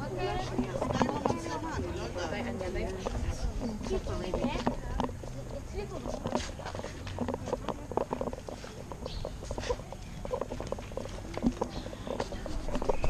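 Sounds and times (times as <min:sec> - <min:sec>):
faint indistinct voices: 0:00.0 - 0:13.0
footsteps and small knocks: 0:00.2 - 0:01.8, 0:02.4 - 0:13.0.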